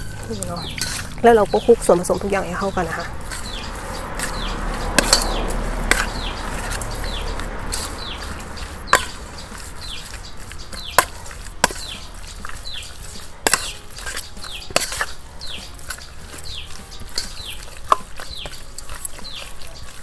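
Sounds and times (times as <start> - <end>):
metal spoon clinking on steel bowl: 0.0 - 1.2, 2.1 - 20.0
birds chirping: 0.0 - 20.0
meat scraping and squelching: 0.0 - 20.0.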